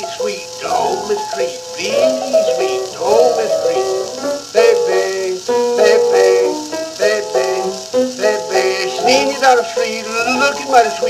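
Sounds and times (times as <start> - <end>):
old blues recording: 0.0 - 11.0
record surface hiss: 0.0 - 11.0.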